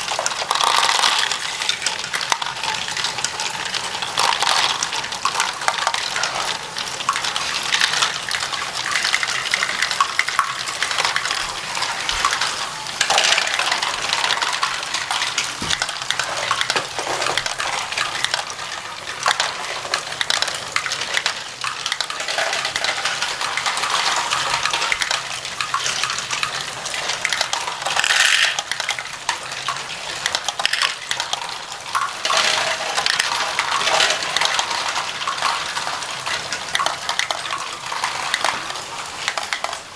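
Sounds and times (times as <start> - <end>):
plastic bricks clattering: 0.0 - 39.9.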